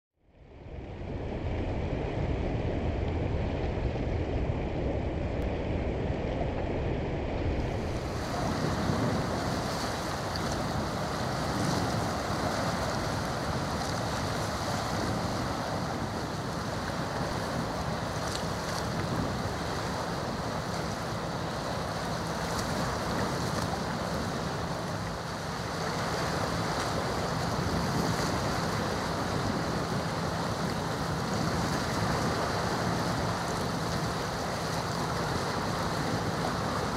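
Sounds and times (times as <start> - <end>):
wind noise on microphone: 0.3 - 36.9
water washing at shoreline: 0.5 - 36.9.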